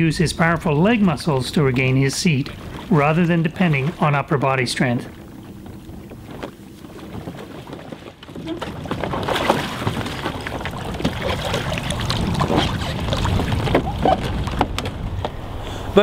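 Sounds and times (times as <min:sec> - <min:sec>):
water splashing around kayak: 0:00.0 - 0:15.6.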